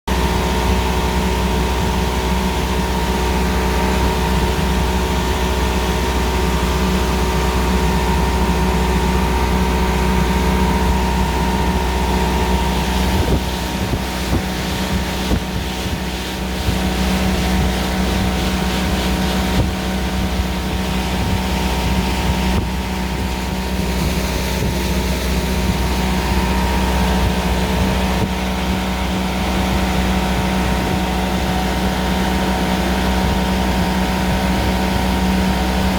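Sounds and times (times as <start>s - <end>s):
outboard motor running: 0.1s - 35.9s.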